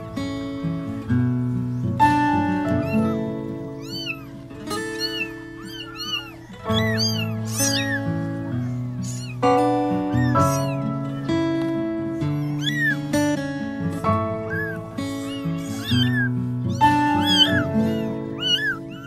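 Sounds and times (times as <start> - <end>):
kittens mewing: 0.9 - 19.0.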